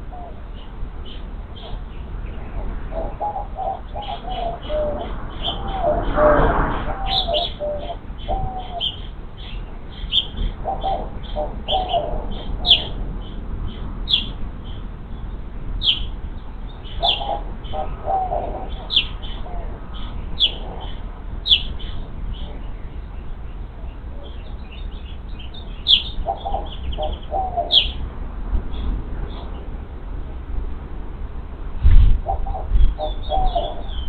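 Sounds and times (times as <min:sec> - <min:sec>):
high downward-sweeping bird chirp: 0:00.0 - 0:28.1, 0:32.2 - 0:34.0
lower bird call: 0:00.0 - 0:28.1, 0:32.2 - 0:34.0
low steady rumble: 0:00.0 - 0:34.0.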